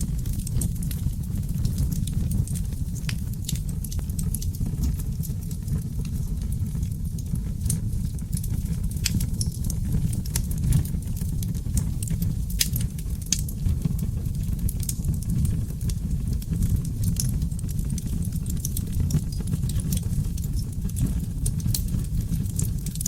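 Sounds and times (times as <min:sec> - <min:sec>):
logs crackling and popping: 0:00.0 - 0:23.0
low rumble of flames: 0:00.0 - 0:23.0.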